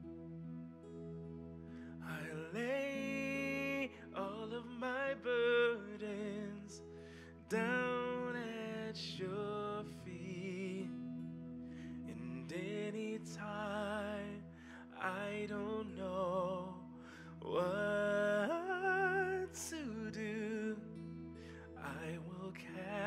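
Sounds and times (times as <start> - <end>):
soft instrumental accompaniment: 0.0 - 23.0
person singing worship song: 1.9 - 23.0.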